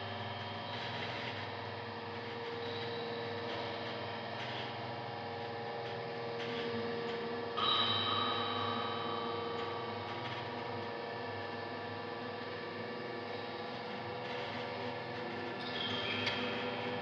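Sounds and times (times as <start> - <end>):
droning hum of held tones: 0.0 - 17.0.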